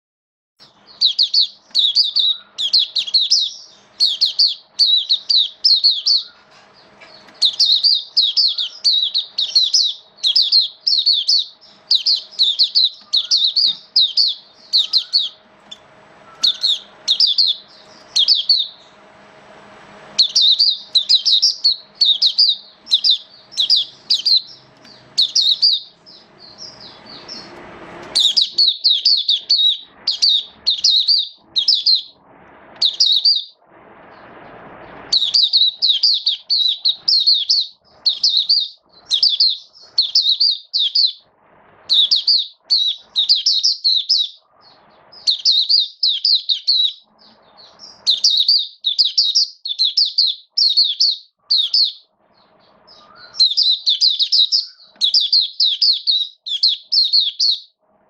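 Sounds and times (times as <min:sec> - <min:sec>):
faint steady hum: 0:00.6 - 0:58.0
bird warbling: 0:00.7 - 0:19.0, 0:20.2 - 0:32.2, 0:32.8 - 0:33.5, 0:35.1 - 0:41.2, 0:41.9 - 0:57.7.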